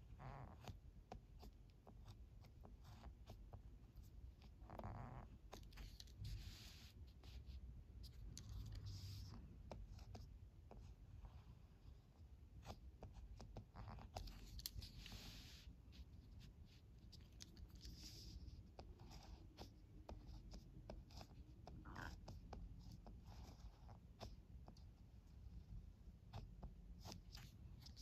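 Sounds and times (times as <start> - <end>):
pen scratching on paper: 0.0 - 11.5, 12.1 - 25.0, 26.2 - 28.0.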